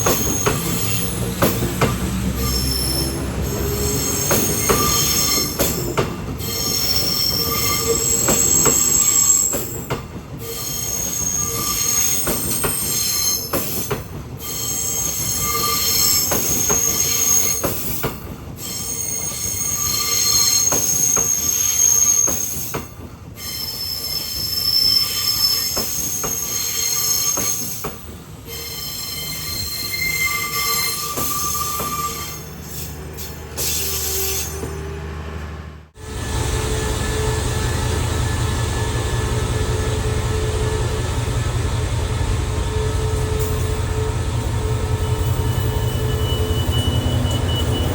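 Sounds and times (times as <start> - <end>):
train wheels squealing on rails: 0.0 - 47.9.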